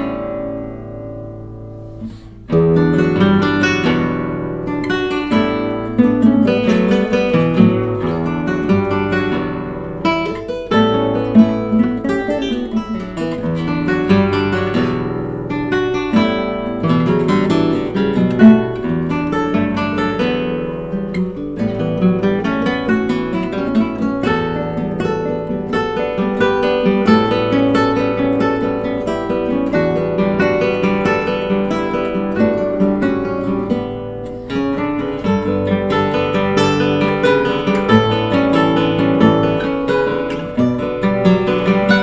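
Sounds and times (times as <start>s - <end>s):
classical guitar duet: 0.0s - 42.0s.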